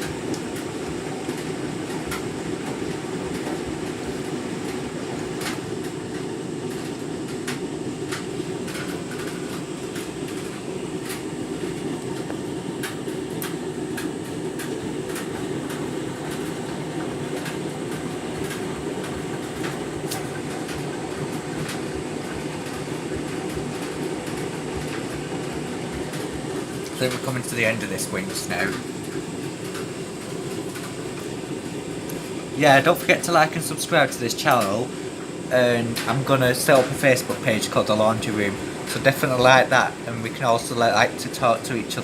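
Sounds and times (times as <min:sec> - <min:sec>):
washing machine churning water: 0:00.0 - 0:42.0.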